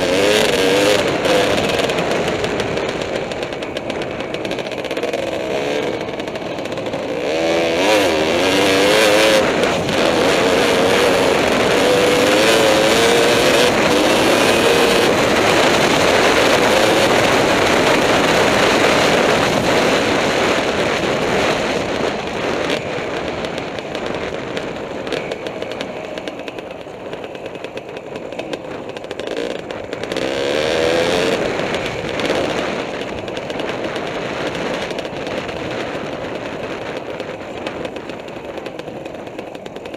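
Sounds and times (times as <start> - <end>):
two-stroke dirt bike engine revving: 0.0 - 39.9.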